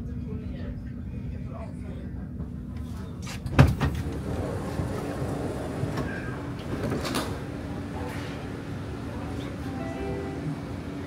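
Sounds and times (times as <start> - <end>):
train car low hum: 0.0 - 11.0.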